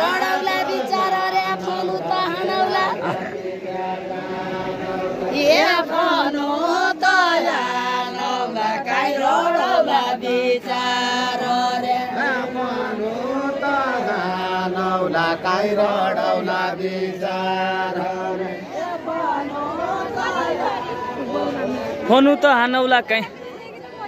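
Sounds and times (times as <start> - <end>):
group singing unaccompanied: 0.0 - 24.0.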